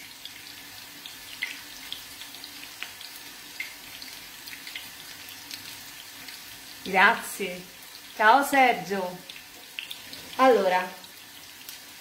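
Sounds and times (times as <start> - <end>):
vegetables frying in oil: 0.0 - 12.0.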